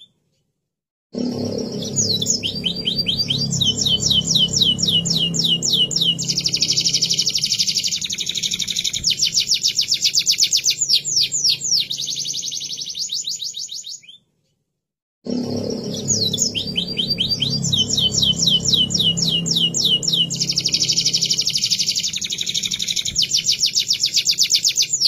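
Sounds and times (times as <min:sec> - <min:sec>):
canary trilling: 0:01.2 - 0:14.2, 0:15.3 - 0:25.0.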